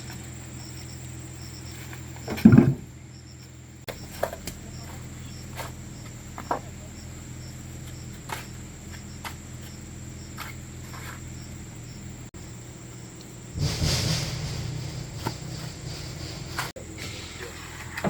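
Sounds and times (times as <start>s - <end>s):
insect-like chirping: 0.0s - 18.0s
steady low hum: 0.0s - 18.0s.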